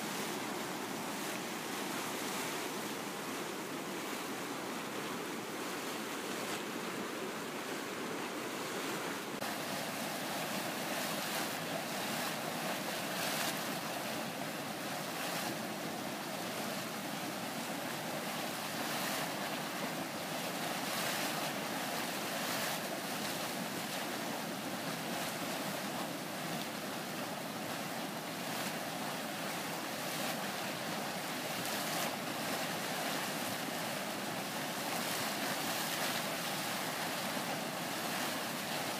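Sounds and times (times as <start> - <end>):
boiling water churning: 0.0 - 38.9.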